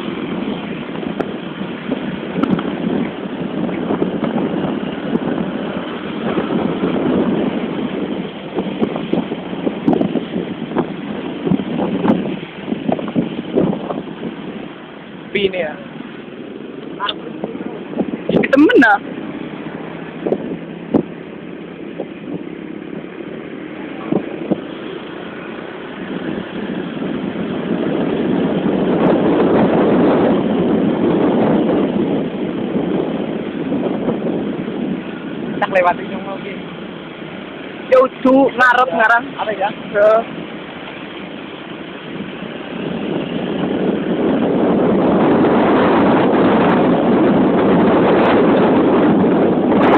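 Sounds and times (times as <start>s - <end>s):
vehicle engine and road noise: 0.0s - 49.9s
wind on microphone: 0.0s - 49.9s.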